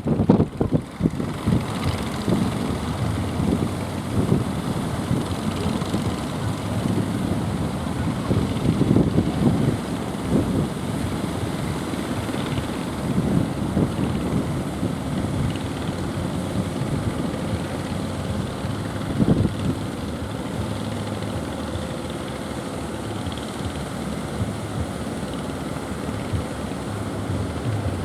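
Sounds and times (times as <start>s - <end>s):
boat engine chopping drone: 0.0s - 28.0s.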